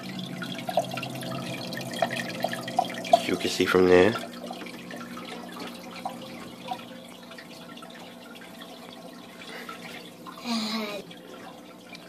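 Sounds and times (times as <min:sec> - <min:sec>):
low steady hum: 0:00.0 - 0:12.0
water trickling and splashing: 0:00.0 - 0:12.0.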